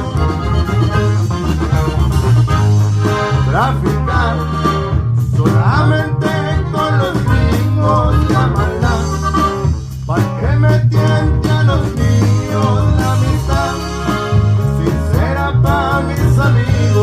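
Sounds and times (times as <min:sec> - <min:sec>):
plucked guitar melody: 0:00.0 - 0:17.0
steady bass: 0:00.0 - 0:17.0.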